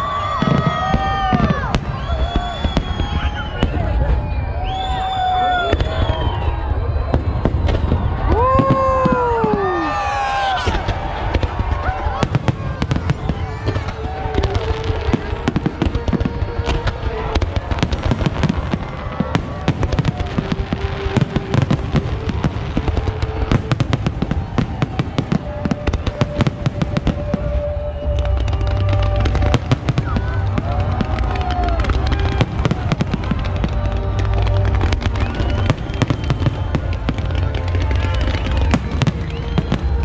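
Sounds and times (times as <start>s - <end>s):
fireworks cracking and banging: 0.0s - 40.0s
music playing: 0.0s - 40.0s.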